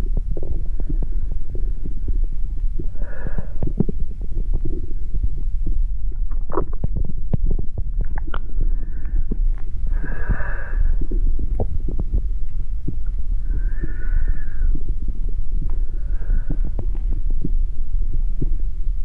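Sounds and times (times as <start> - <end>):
low body rumble: 0.0 - 19.0.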